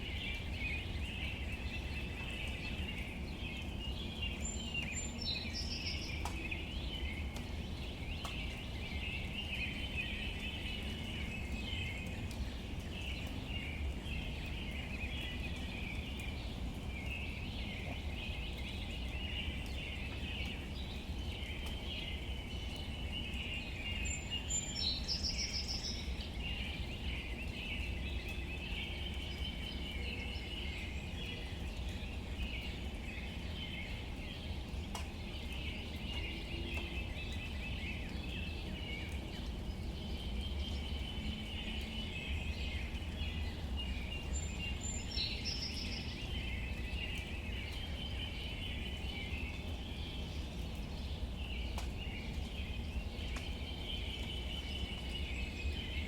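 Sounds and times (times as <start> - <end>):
birds chirping: 0.0 - 56.0
soft rain on leaves: 0.0 - 56.0.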